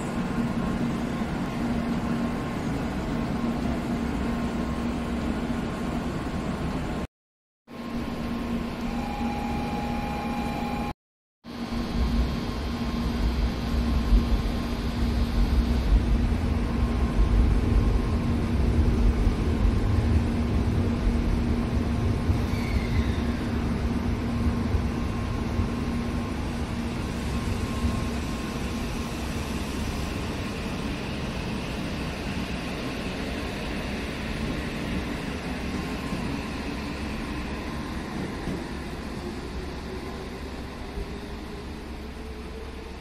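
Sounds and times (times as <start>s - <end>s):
train rumble and hum: 0.0s - 7.1s, 11.5s - 43.0s.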